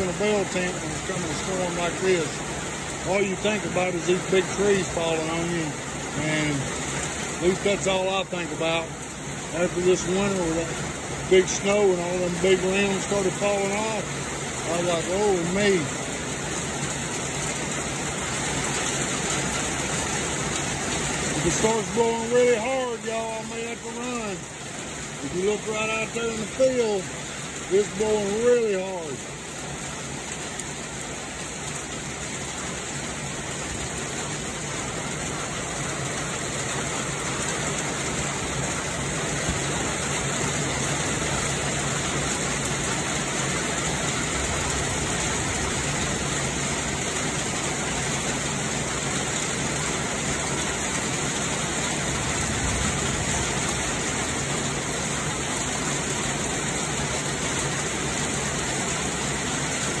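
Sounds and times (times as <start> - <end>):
heavy rain pouring: 0.0 - 60.0.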